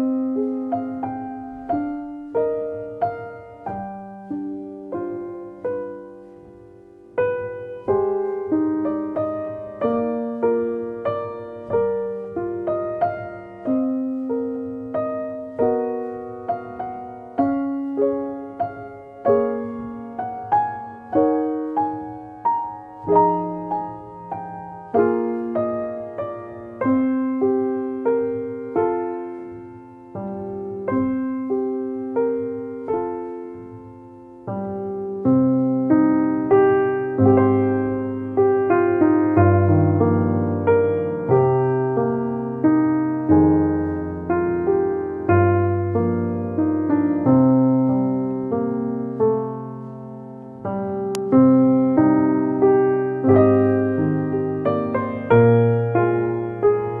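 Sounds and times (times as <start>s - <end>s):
slow solo piano music: 0.0s - 57.0s.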